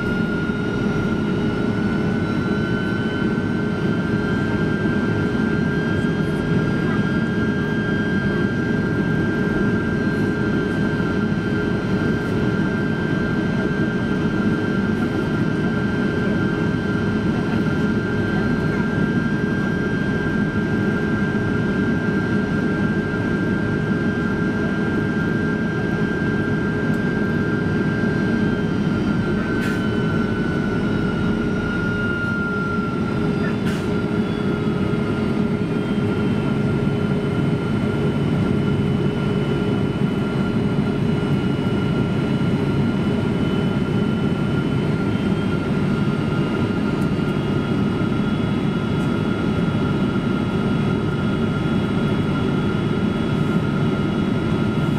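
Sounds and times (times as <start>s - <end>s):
jet engine drone and air rush: 0.0s - 54.9s.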